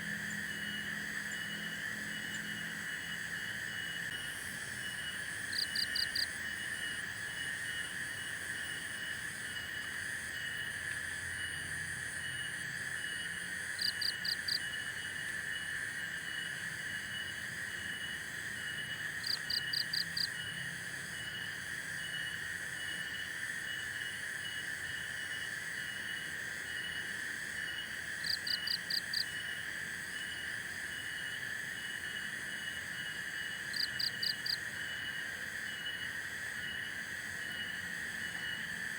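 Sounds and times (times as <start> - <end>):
insects and frogs droning: 0.0 - 38.9.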